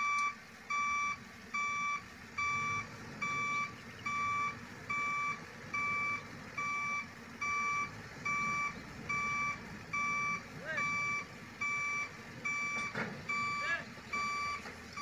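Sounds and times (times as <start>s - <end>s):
back-up alarm beeping: 0.0s - 15.0s
engine rumbling: 0.0s - 15.0s.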